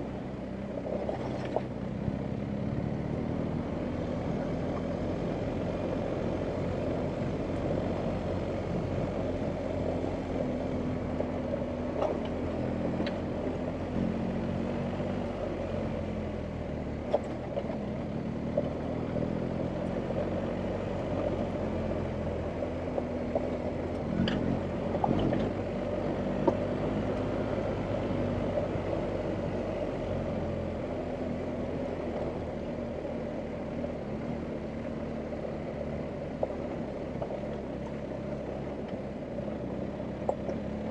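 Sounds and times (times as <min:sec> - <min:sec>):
motorcycle engine at low revs: 0:00.0 - 0:40.9.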